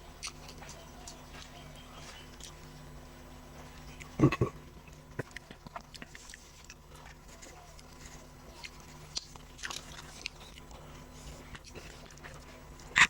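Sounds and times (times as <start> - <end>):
person chewing food: 0.2 - 2.7, 3.6 - 13.0.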